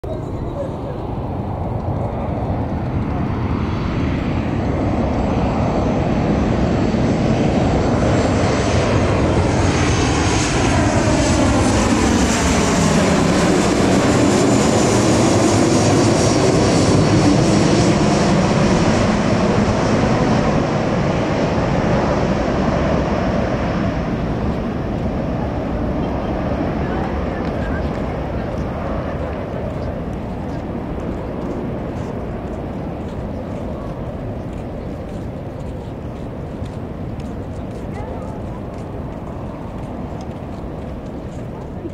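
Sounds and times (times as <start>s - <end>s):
falling jet engine whine: 0.0s - 41.9s
jet airliner passing overhead: 0.0s - 41.9s.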